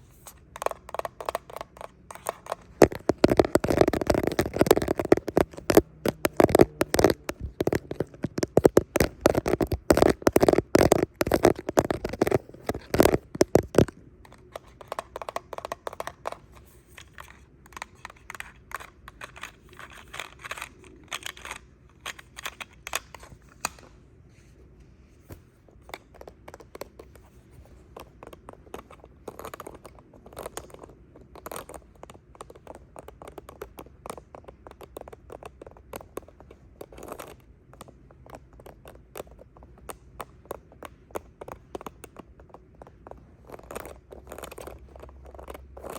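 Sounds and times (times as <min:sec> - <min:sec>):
fingernails tapping and scratching: 0:00.0 - 0:23.9, 0:25.7 - 0:45.9.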